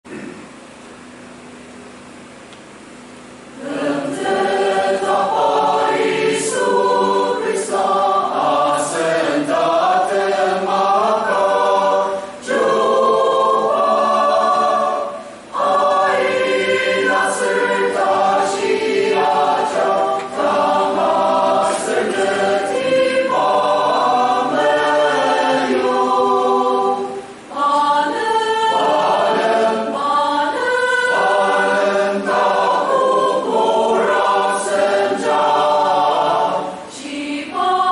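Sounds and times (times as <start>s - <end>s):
mixed choir singing a hymn: 3.5s - 37.9s.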